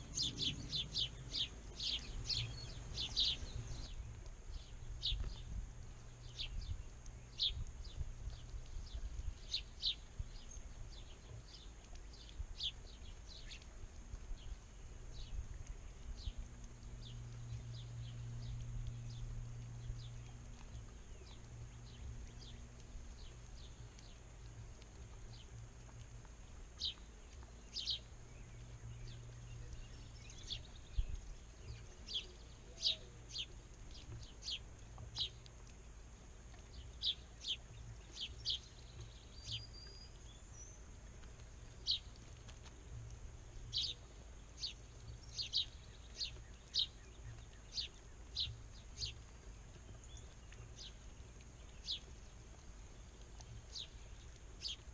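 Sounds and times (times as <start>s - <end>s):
low steady hum: 0.0s - 54.9s
small birds chirping: 0.0s - 54.9s.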